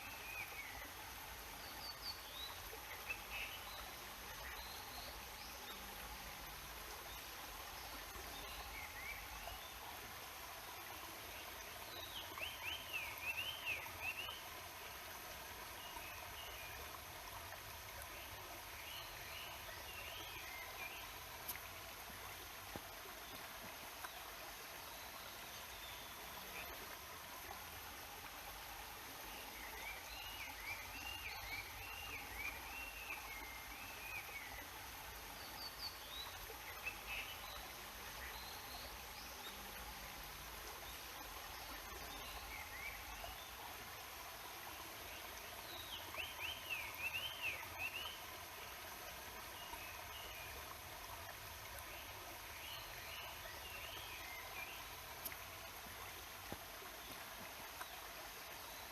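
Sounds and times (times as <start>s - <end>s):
stream water running: 0.0s - 58.9s.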